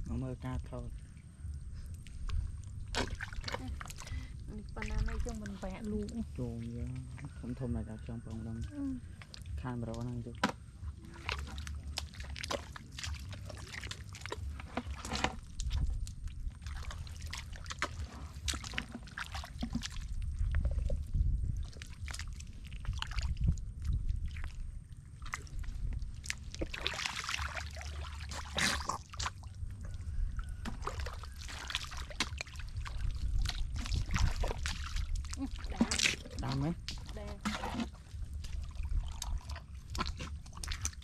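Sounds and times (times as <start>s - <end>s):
mud and water squelching: 0.0s - 41.0s
steady low rumble: 0.0s - 41.0s.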